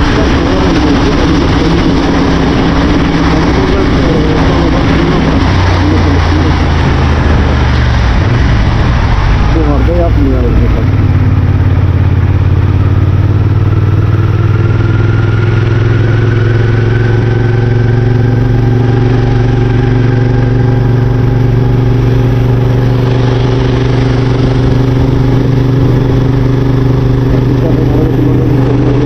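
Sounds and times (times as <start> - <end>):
wind noise: 0.0 - 13.2, 16.9 - 29.0
motorcycle engine running: 0.0 - 29.0
rain noise: 0.0 - 29.0.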